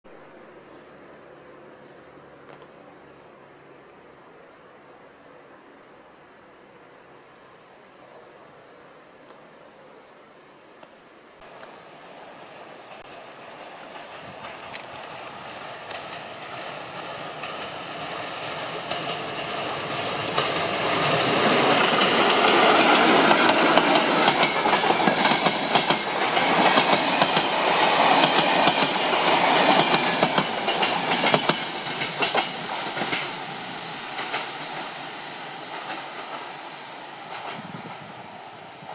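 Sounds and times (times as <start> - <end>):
passenger train passing: 0.1 - 9.1, 11.4 - 38.9.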